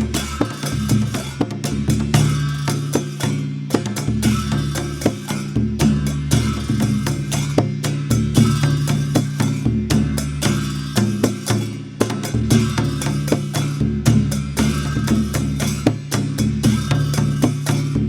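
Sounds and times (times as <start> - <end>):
double-headed drum fast rhythm: 0.0 - 18.0
ringing low drum tone: 0.0 - 18.0.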